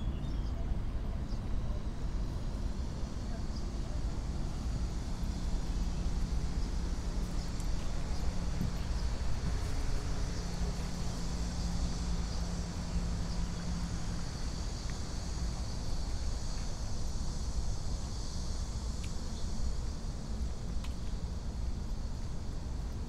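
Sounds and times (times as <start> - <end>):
insects buzzing: 0.0 - 23.0
low engine hum: 0.0 - 23.0
wind rumble on microphone: 0.0 - 23.0.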